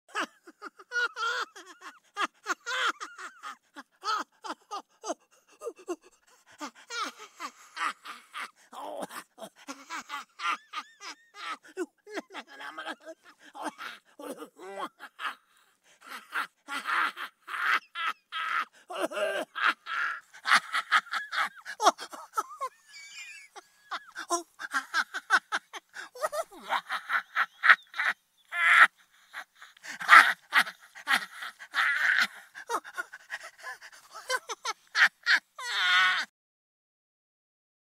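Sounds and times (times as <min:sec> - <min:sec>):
man laughing maniacally: 0:00.1 - 0:36.3.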